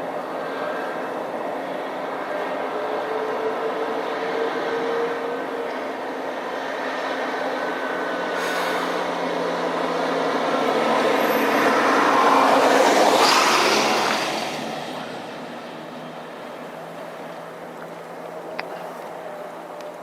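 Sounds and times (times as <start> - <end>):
jet airliner passing overhead: 0.0 - 19.9.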